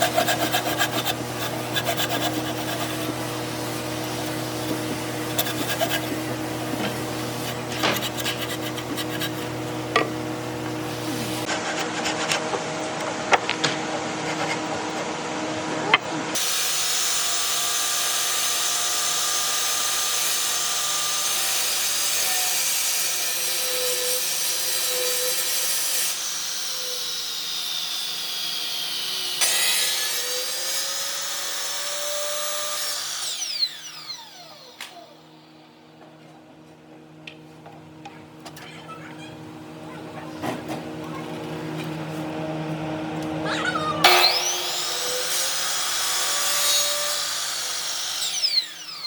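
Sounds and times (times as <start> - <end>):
power tool cutting wood: 0.0 - 14.7, 15.9 - 35.8, 40.4 - 49.0.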